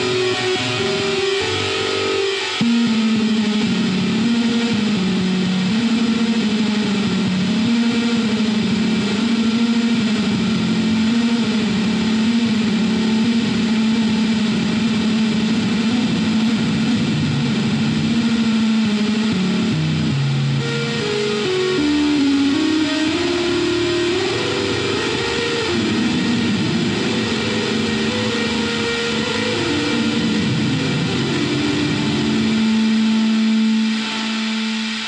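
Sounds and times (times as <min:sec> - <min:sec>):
guitar passage: 0:00.0 - 0:35.0
low bass line music: 0:02.6 - 0:35.0.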